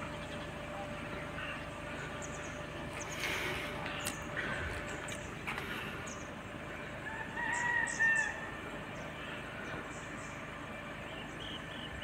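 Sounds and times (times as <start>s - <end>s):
drawn-out bird call: 0.0s - 12.0s
small birds chirping: 0.0s - 12.0s.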